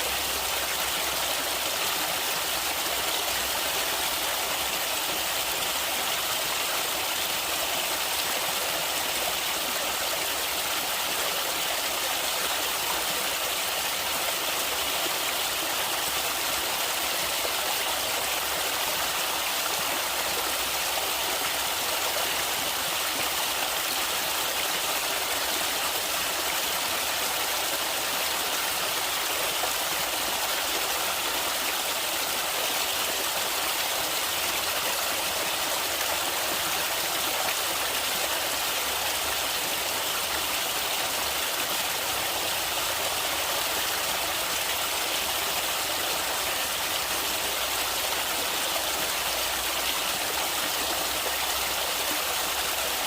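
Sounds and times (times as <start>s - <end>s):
stream water over rocks: 0.0s - 53.0s.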